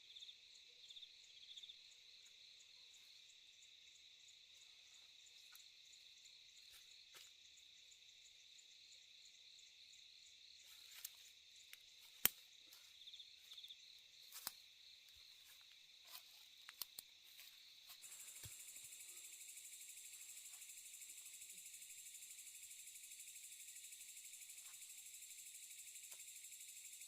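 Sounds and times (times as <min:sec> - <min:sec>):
night insects chirring: 0:00.0 - 0:27.0
rapidly pulsing insect trill: 0:00.0 - 0:27.0.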